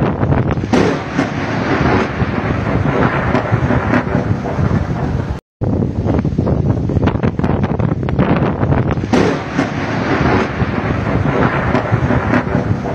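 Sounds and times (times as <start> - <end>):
rolling thunder: 0.0 - 12.9
wind buffeting microphone: 0.0 - 12.9.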